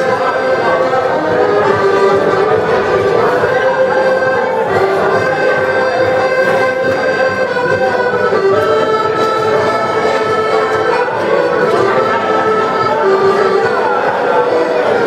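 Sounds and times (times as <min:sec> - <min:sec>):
accordion dance music: 0:00.0 - 0:15.0.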